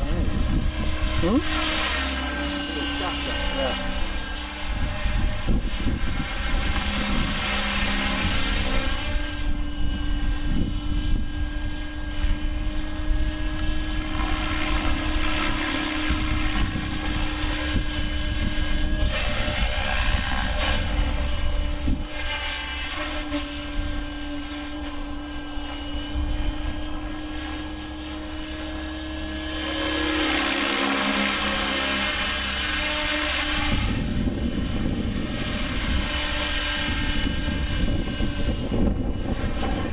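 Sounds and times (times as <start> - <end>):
wind buffeting microphone: 0.0 - 2.6, 3.3 - 30.2, 31.0 - 39.9
model helicopter rotor whine: 0.0 - 39.9.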